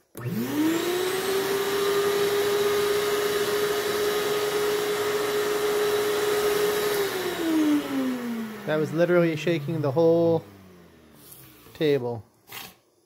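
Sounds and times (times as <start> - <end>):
shop vacuum whine: 0.0 - 12.2.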